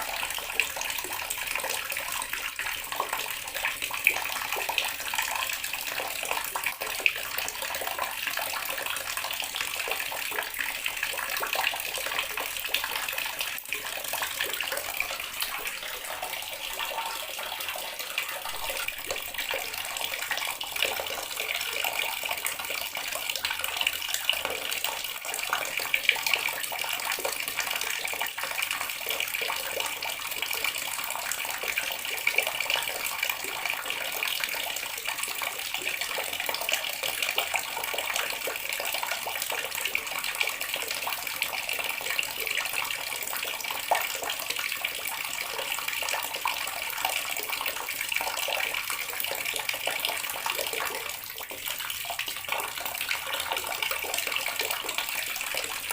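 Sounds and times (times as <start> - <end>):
water running from a tap: 0.0 - 55.9.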